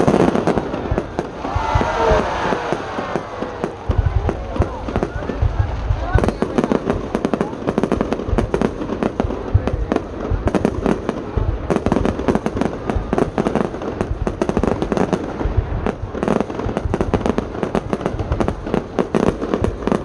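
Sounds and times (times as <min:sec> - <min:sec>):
fireworks bangs and pops: 0:00.0 - 0:20.0.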